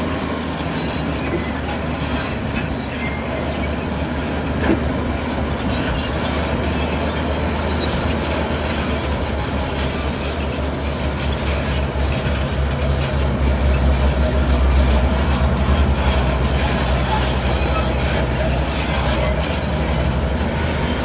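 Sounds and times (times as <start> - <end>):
heavy diesel machinery rumbling: 0.0 - 21.0.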